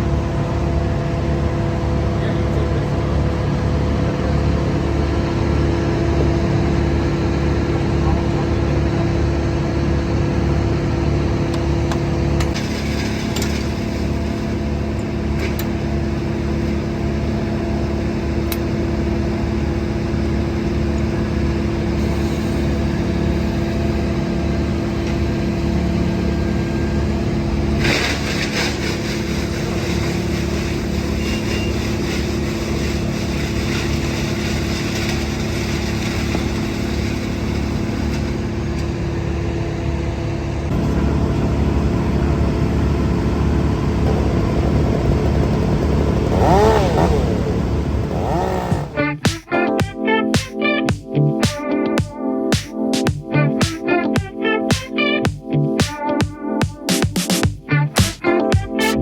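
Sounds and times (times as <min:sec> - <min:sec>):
heavy equipment engine running: 0:00.0 - 0:49.3.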